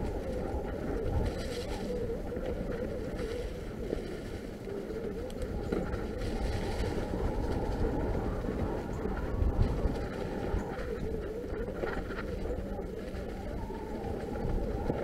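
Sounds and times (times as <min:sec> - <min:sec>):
bike tyres on dry leaves: 0:00.0 - 0:15.0.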